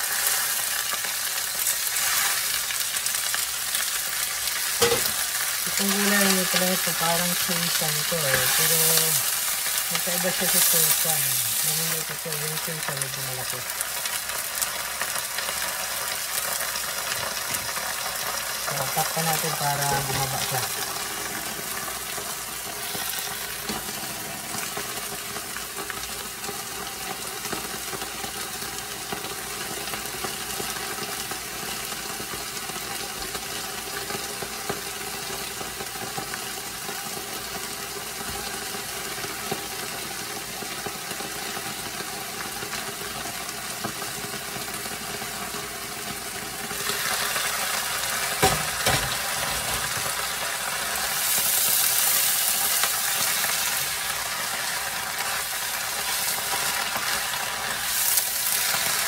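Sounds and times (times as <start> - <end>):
greens sizzling in oil: 0.0 - 59.0.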